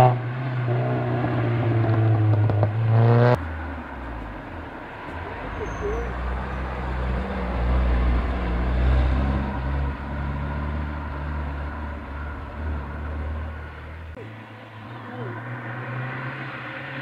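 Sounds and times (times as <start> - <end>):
car engines passing by: 0.0 - 17.0.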